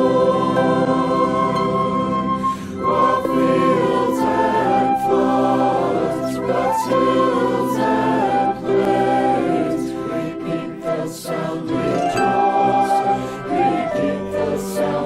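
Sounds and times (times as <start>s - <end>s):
choir singing slowly: 0.0s - 15.0s.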